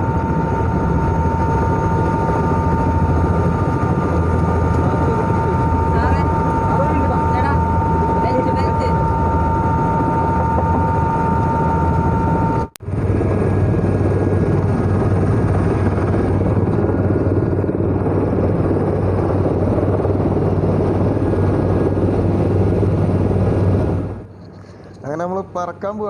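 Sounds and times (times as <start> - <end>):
helicopter engine and rotor: 0.0 - 25.9.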